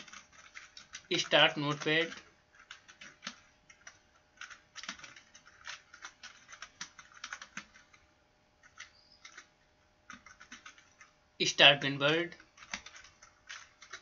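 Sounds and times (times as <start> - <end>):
keyboard keys clicking: 0.0 - 8.0, 8.6 - 9.5, 10.1 - 11.1, 12.4 - 14.0.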